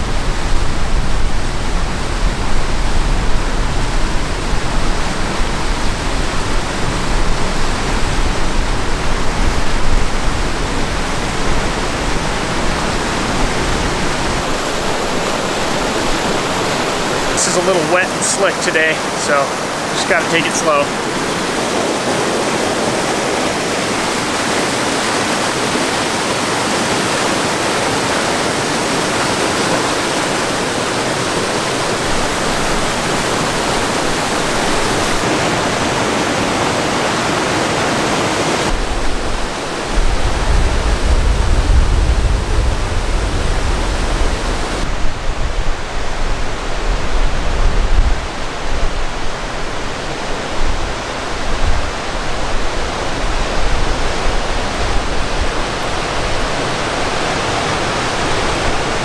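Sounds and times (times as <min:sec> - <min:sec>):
creek whitewater rushing: 0:00.0 - 0:59.0.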